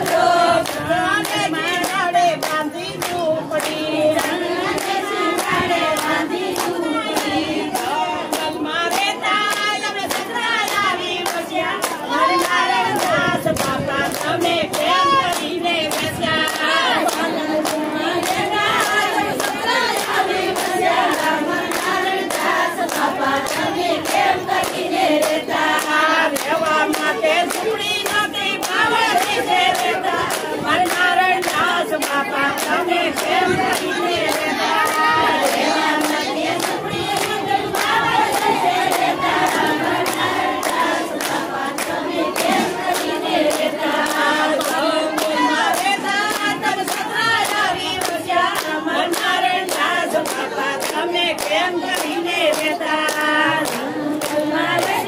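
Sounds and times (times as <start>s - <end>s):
hands clapping steady beat: 0.0s - 55.0s
women singing together: 0.0s - 55.0s.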